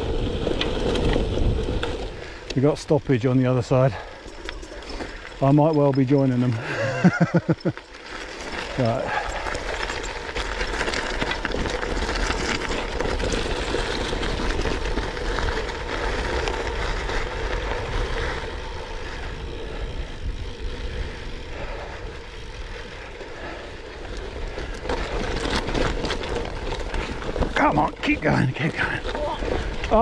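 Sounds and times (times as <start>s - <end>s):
bike rattling over stones: 0.0s - 30.0s
tyres crunching on gravel: 0.0s - 30.0s.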